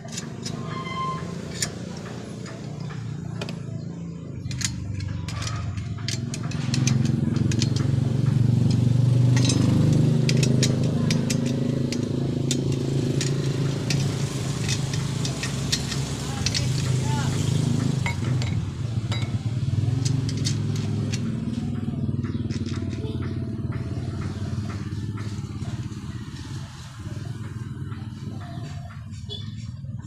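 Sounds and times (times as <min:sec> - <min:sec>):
small metal parts clicking: 0:00.0 - 0:27.1.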